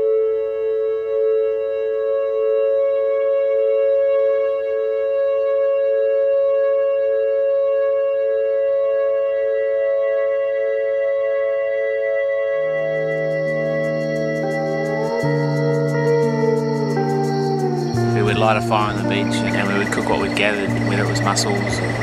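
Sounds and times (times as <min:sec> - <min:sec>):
droning background music: 0:00.0 - 0:22.0.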